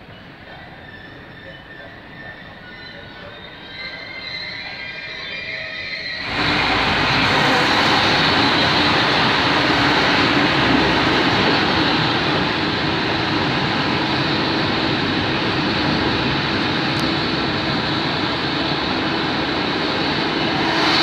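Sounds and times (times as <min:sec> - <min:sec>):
freight train wheels on rail: 0:00.0 - 0:21.0.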